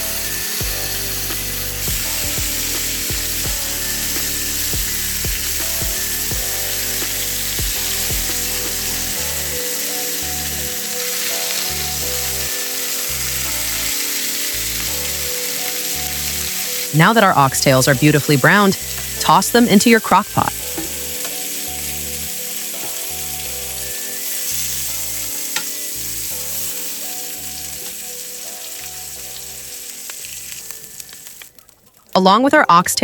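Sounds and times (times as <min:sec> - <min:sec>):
meat sizzling in a pan: 0:00.0 - 0:32.1.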